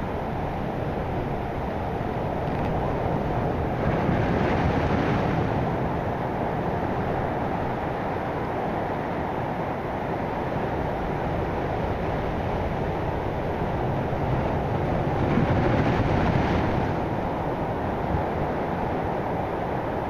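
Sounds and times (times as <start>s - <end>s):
heavy surf breaking on shore: 0.0s - 20.0s
wind buffeting microphone: 0.0s - 20.0s.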